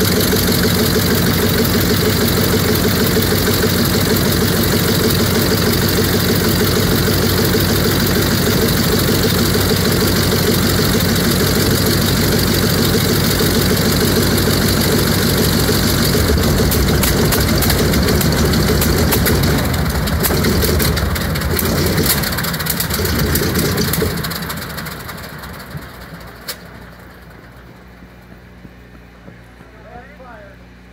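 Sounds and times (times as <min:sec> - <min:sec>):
radial aircraft engine running: 0:00.0 - 0:30.9.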